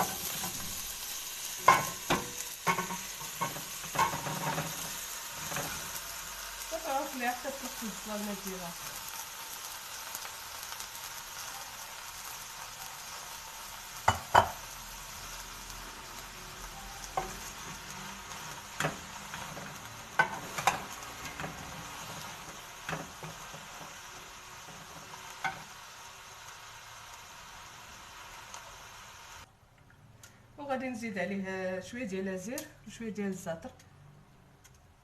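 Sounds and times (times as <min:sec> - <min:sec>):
onion and garlic sizzling in oil: 0:00.0 - 0:29.5.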